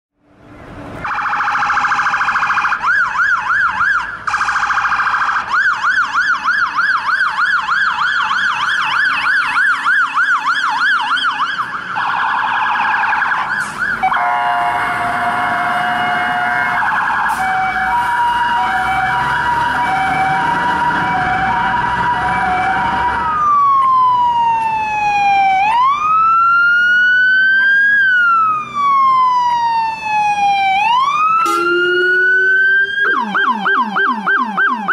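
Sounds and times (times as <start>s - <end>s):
fire truck sirens: 0.9s - 34.9s.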